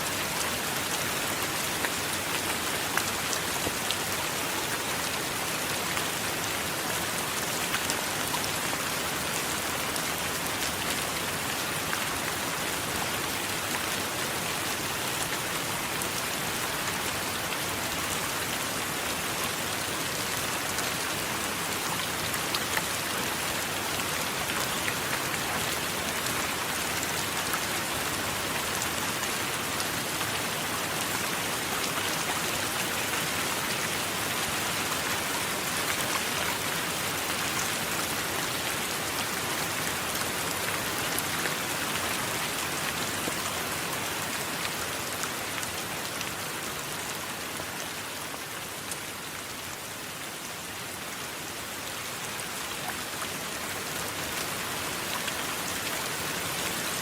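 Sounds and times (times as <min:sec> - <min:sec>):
rain pattering on surface: 0:00.0 - 0:50.3, 0:50.9 - 0:57.0.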